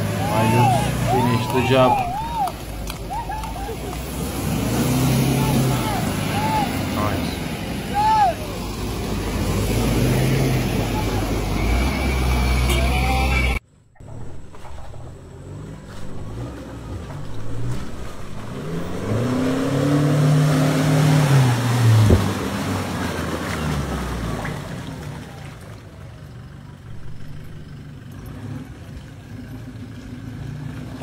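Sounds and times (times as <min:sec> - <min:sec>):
pickup engine revving: 0:00.0 - 0:25.1.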